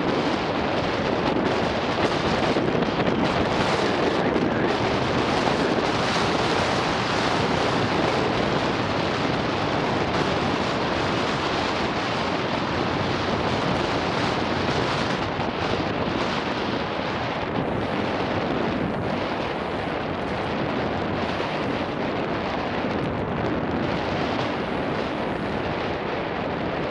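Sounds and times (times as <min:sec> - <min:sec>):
bike rattling on rough trail: 0:00.0 - 0:26.9
bike tyre noise: 0:00.0 - 0:26.9
wind buffeting microphone: 0:00.0 - 0:26.9.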